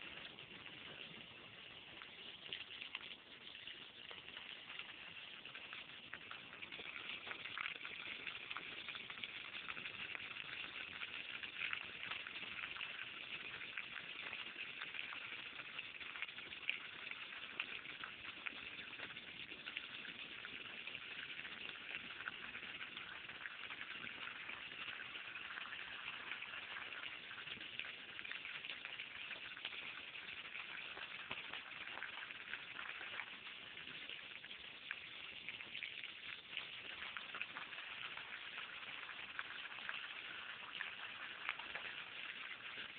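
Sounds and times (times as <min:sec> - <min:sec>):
water splashes: 0:00.0 - 0:42.9.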